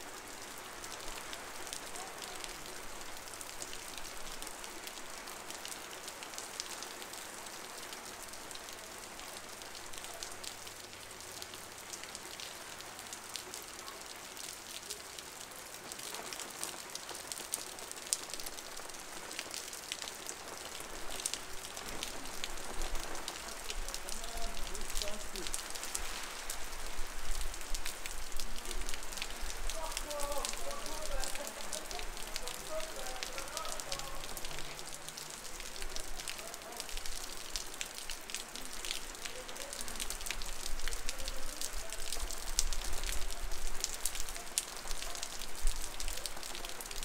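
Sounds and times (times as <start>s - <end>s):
heavy rain hissing: 0.0s - 47.0s
raindrops splashing: 0.0s - 47.0s.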